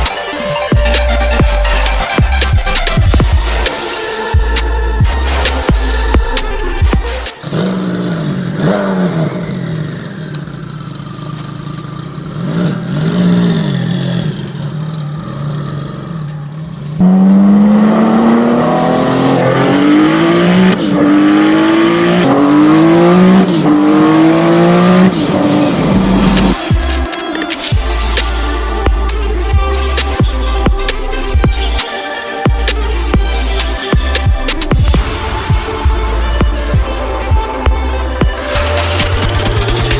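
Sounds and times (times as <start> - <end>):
sports car engine revving: 0.0 - 31.8, 32.5 - 39.9.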